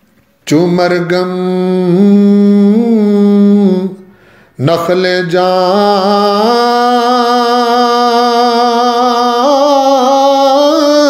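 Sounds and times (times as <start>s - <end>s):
man chanting: 0.4s - 11.0s.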